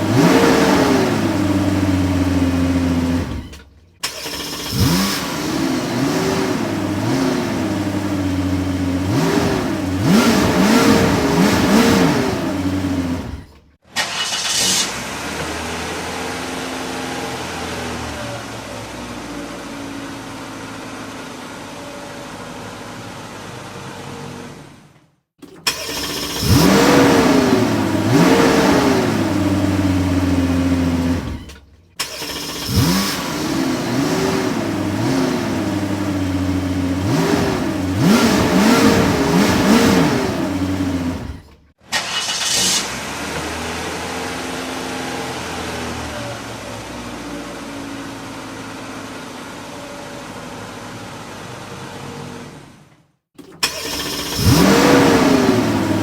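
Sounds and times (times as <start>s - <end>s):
car engine running steadily: 0.0s - 14.4s, 15.1s - 42.2s, 43.1s - 56.0s
car engine revving: 0.0s - 21.4s, 25.4s - 49.2s, 53.4s - 56.0s.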